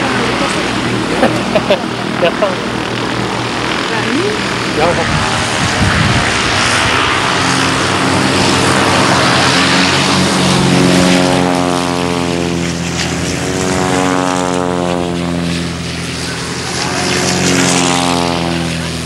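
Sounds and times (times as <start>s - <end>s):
plane passing close by: 0.0s - 19.0s
propeller plane drone: 0.0s - 19.0s.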